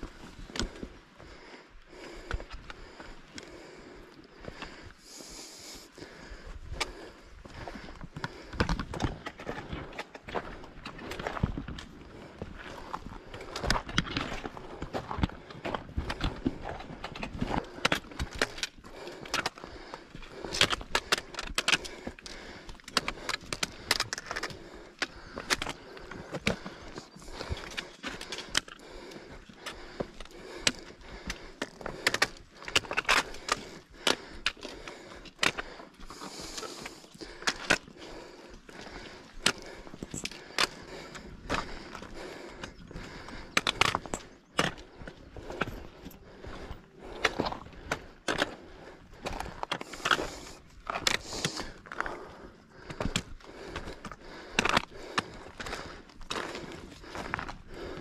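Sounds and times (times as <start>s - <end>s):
footsteps on rock: 0.0s - 5.3s, 6.0s - 58.0s
boots crunching on loose stones: 7.4s - 58.0s.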